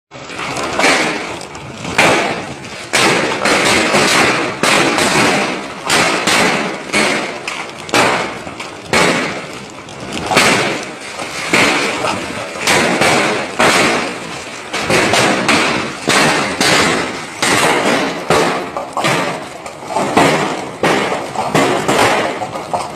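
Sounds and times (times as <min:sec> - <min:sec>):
hail clattering: 0:00.2 - 0:22.9
hailstones thudding on hard surfaces: 0:00.2 - 0:22.9.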